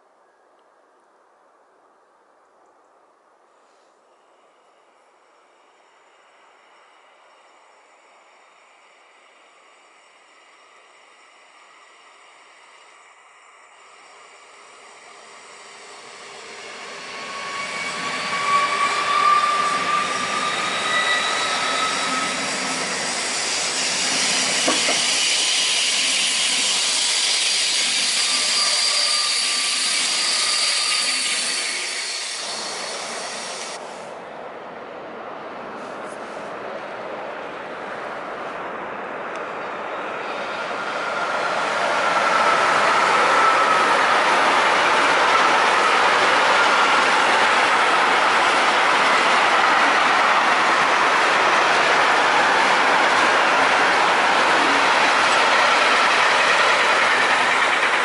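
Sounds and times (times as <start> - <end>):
distant freight train rumble: 3.6 - 58.0
high-speed train passing: 4.0 - 58.0.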